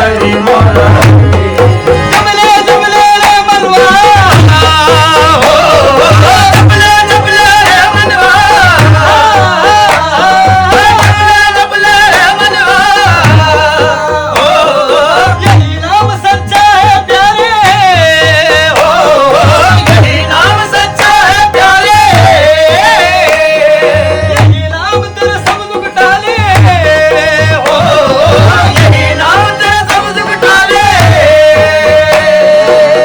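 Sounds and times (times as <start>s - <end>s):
hand drums beating: 0.0s - 33.0s.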